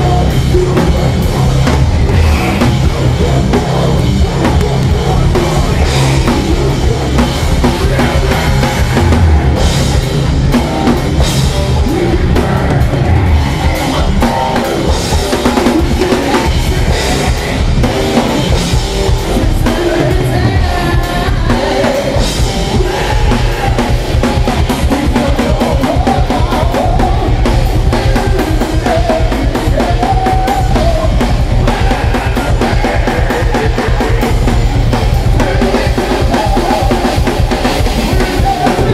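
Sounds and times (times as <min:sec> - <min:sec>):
distorted electric guitar: 0:00.0 - 0:38.9
drum kit: 0:00.0 - 0:38.9.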